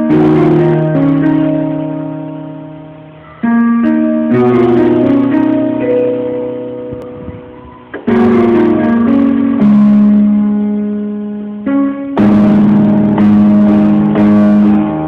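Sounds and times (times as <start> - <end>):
electronic keyboard chords: 0.0 - 15.0.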